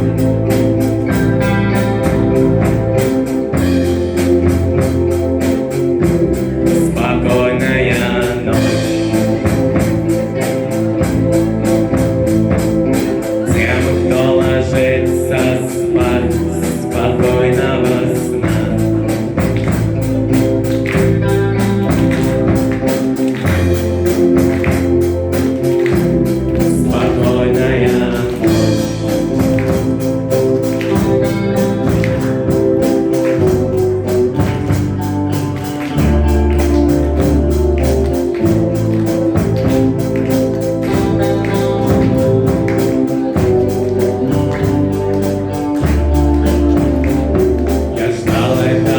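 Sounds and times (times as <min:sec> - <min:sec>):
band playing with steady beat: 0:00.0 - 0:48.9
person singing: 0:00.0 - 0:48.9.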